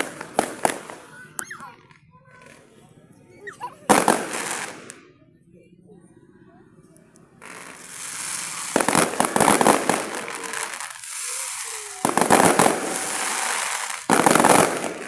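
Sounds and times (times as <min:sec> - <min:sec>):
fireworks bursting: 0:00.0 - 0:05.1, 0:07.4 - 0:15.0.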